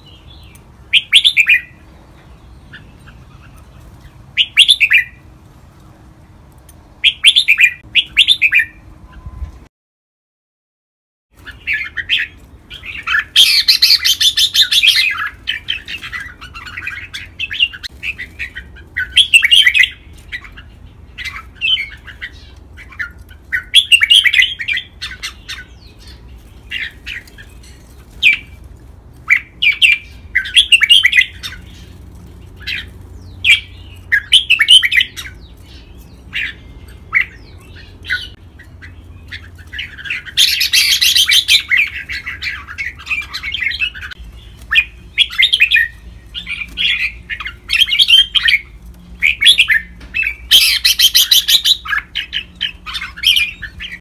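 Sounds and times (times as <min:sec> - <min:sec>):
birds singing warbling whistles: 0:00.0 - 0:05.2, 0:07.0 - 0:09.6, 0:11.4 - 0:28.6, 0:29.2 - 0:54.0.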